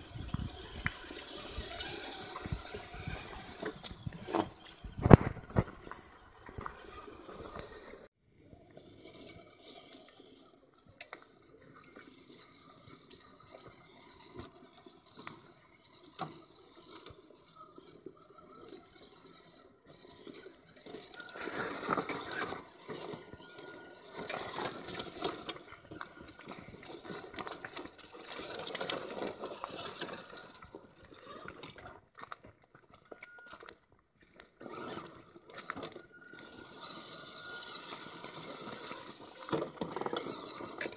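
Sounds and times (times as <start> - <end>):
toy trucks crunching over gravel: 0.0 - 40.9.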